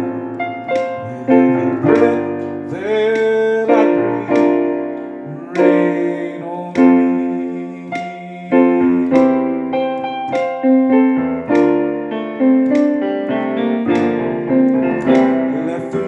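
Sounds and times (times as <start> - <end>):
keyboard playing slow chords: 0.0 - 16.0.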